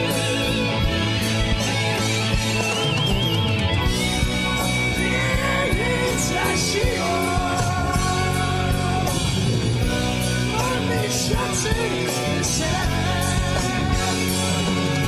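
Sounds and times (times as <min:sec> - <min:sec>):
electric guitar bending notes: 0:00.0 - 0:15.0
rock band playing live: 0:00.0 - 0:15.0.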